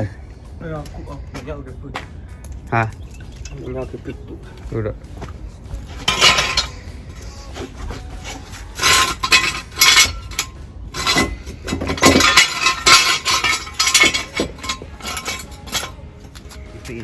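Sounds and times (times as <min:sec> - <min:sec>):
metal scraping and clinking: 0:02.5 - 0:04.2, 0:04.8 - 0:17.0.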